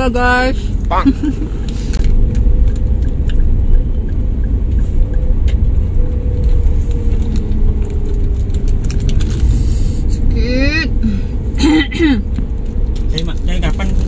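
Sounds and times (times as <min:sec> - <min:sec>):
car rumbling inside cabin: 0:00.0 - 0:14.0.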